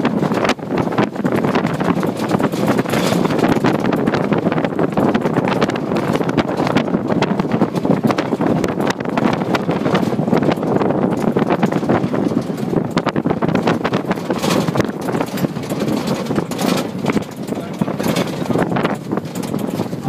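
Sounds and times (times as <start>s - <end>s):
jeep rattling over rough ground: 0.0s - 20.0s
wind buffeting microphone: 0.0s - 20.0s.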